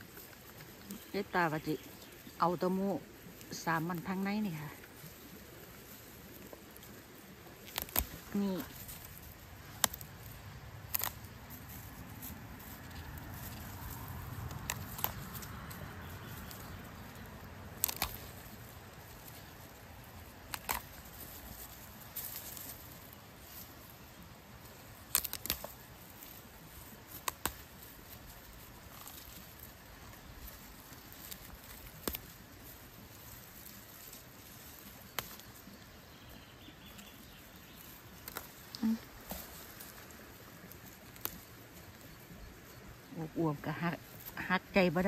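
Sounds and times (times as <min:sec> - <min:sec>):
fern stems snapping: 0:00.1 - 0:43.2.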